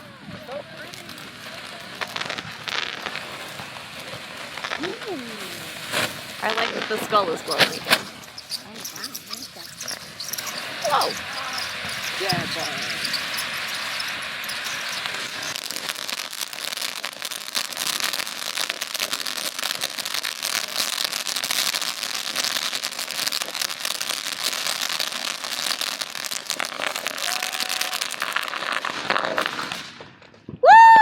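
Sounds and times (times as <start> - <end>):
firework fountain hissing and crackling: 0.0 - 31.0.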